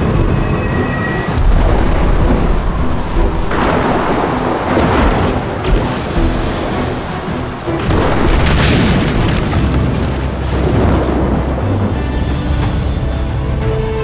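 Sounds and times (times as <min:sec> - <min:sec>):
rumbling thunder: 0:00.0 - 0:12.7
heavy rain: 0:00.0 - 0:14.0.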